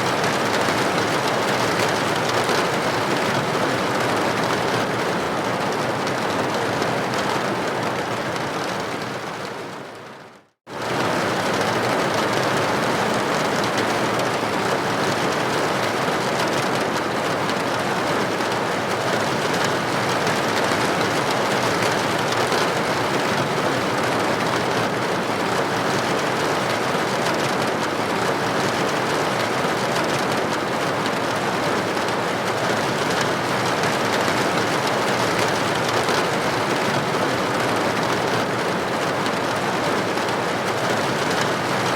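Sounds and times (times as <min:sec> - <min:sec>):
rain pattering on window: 0:00.0 - 0:41.9.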